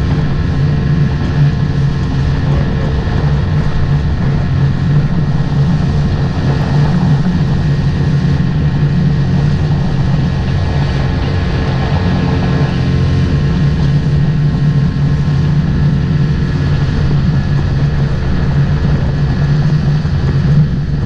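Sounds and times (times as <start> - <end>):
motorboat engine hum: 0.0 - 21.0
rushing noise: 0.0 - 21.0.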